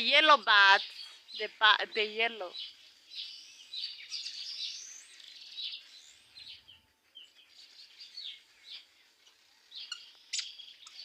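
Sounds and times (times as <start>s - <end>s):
bats squeaking and chirping: 0.0s - 11.0s.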